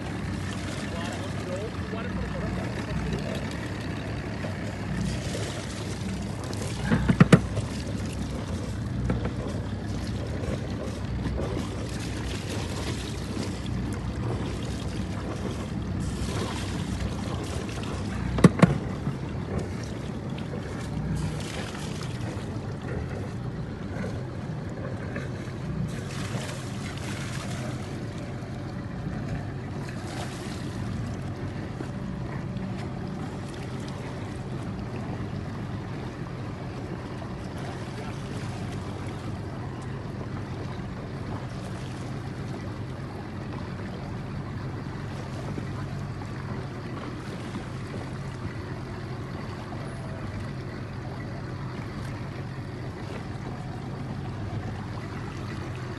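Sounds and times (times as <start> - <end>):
low rumble: 0.0 - 51.2
water rushing and splashing: 0.0 - 55.9.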